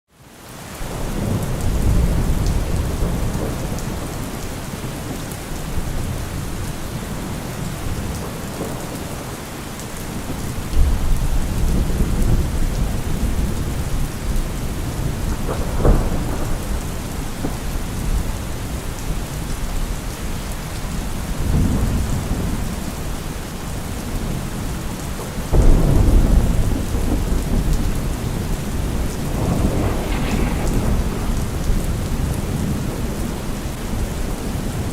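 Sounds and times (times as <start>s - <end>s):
rain falling: 0.1s - 34.9s
rolling thunder: 0.9s - 9.2s, 10.0s - 19.9s, 24.0s - 34.9s.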